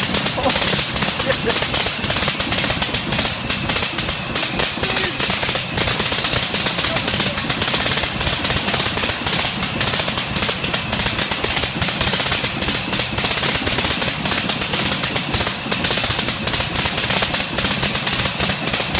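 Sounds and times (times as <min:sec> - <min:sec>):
rotary aero engine crackling: 0:00.0 - 0:18.9.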